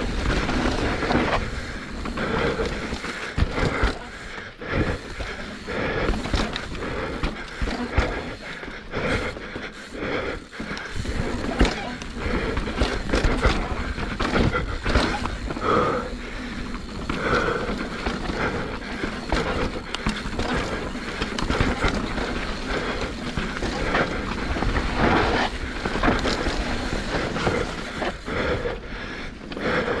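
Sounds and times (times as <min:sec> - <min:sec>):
mountain bike rattling on rocks: 0:00.0 - 0:30.0.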